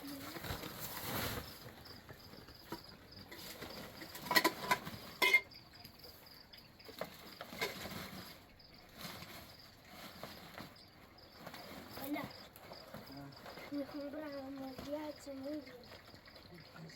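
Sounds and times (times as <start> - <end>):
insects chirping: 0.0 - 16.9.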